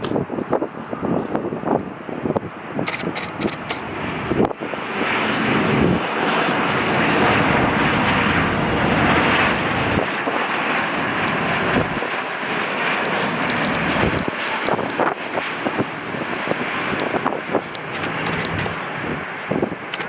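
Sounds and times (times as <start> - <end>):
jet engines in flight: 0.0 - 20.0.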